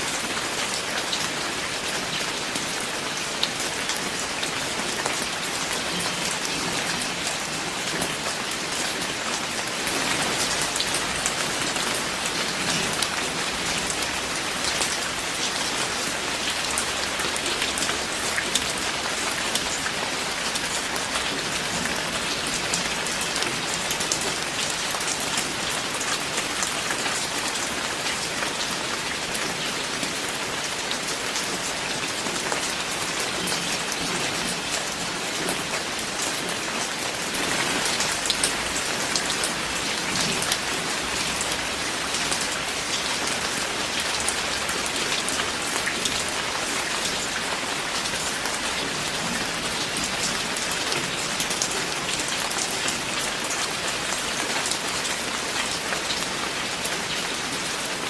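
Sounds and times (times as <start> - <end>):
raindrops pattering: 0.0 - 58.0.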